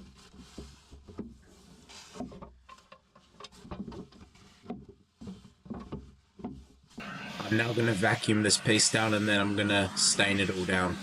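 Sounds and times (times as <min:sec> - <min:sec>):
rubbing and scraping on wood: 0:00.0 - 0:11.0.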